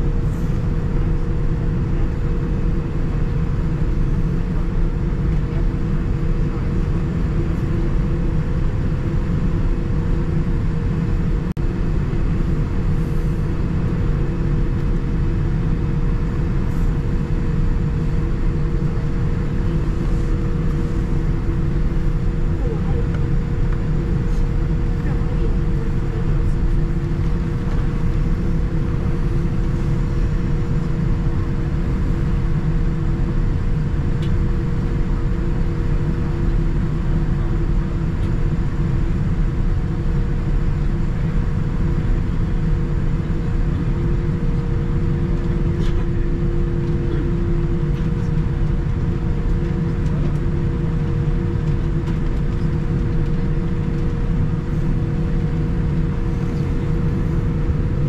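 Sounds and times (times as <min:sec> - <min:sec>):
airliner cabin rumble: 0:00.0 - 0:58.0
steady low hums: 0:00.0 - 0:58.0.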